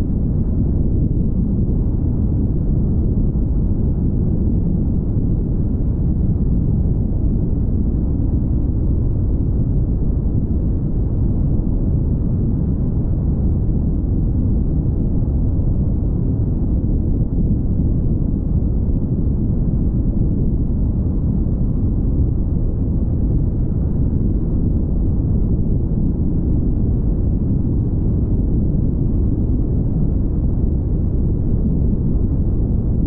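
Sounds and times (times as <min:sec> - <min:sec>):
car tyre and wind noise: 0:00.0 - 0:33.0.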